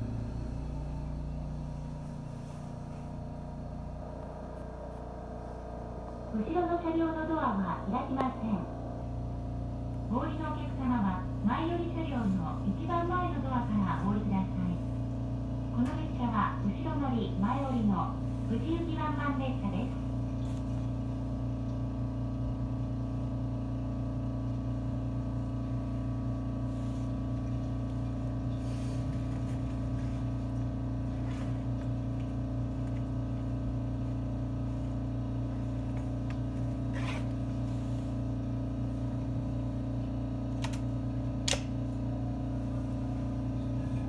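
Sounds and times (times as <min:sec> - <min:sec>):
train carriage hum and rumble: 0:00.0 - 0:44.0.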